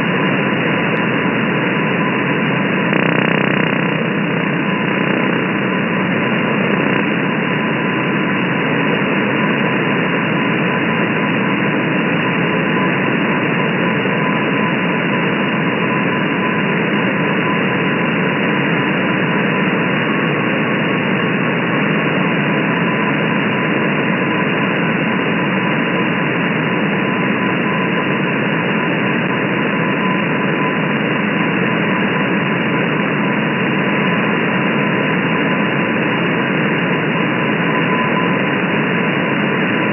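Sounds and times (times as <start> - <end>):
shortwave radio static hiss: 0.0 - 39.9.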